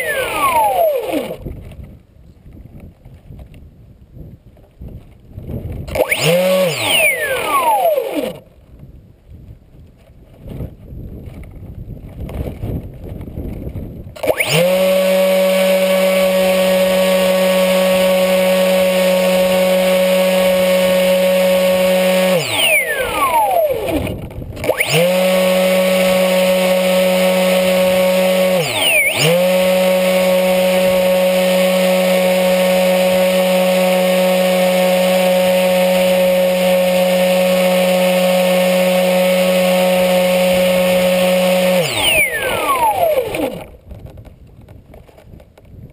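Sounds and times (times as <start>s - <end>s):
electric motor propeller whine: 0.0s - 1.8s, 5.7s - 8.6s, 11.2s - 44.2s.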